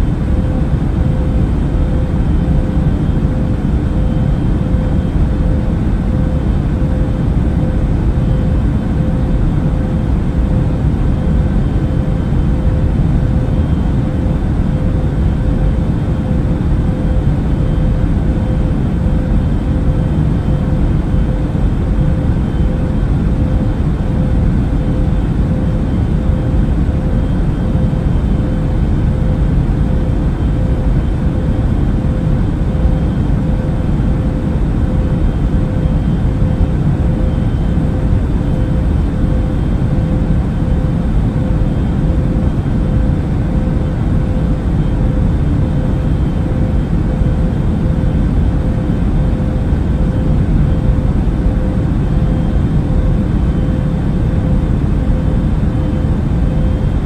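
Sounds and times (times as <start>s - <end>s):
airplane cabin rumble: 0.0s - 57.0s
mid-pitched hum: 0.0s - 57.0s.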